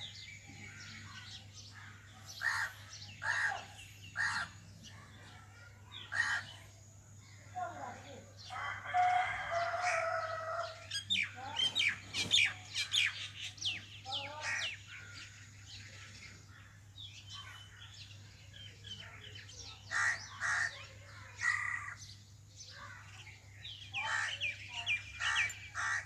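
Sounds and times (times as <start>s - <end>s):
birds calling harshly: 0.0s - 26.0s.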